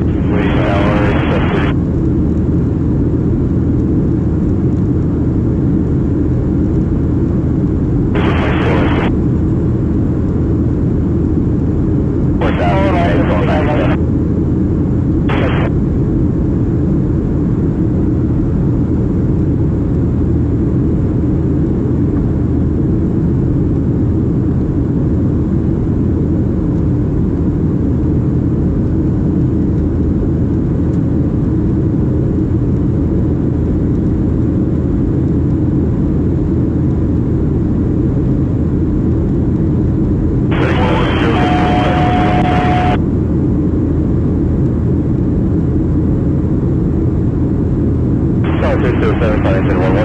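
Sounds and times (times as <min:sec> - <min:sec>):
airliner engine rumble in flight: 0:00.0 - 0:50.0.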